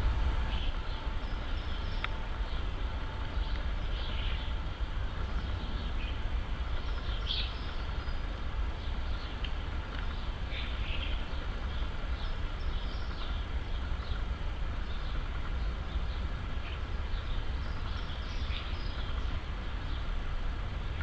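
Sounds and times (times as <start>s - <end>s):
distant jet airliner rumble: 0.0s - 21.0s
small birds chirping: 0.0s - 21.0s.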